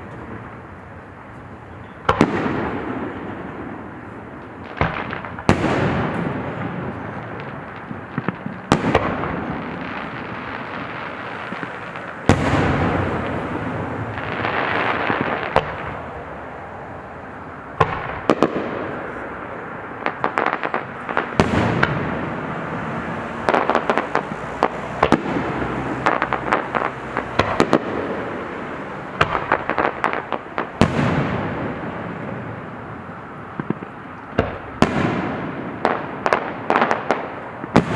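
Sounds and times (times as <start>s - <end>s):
firework shells booming: 0.0s - 37.9s
fireworks crackling: 0.0s - 37.9s.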